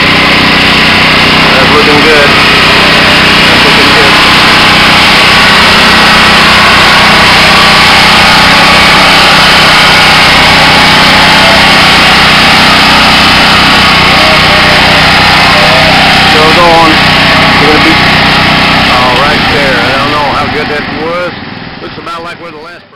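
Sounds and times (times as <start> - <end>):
garden tractor engine under load: 0.0 - 22.9.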